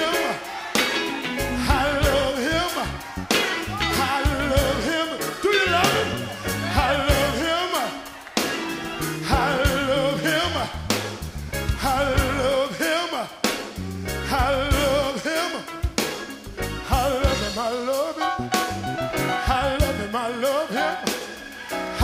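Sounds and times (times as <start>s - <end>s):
band with bass and drums: 0.0s - 22.0s
gospel singing with vibrato: 0.0s - 22.0s.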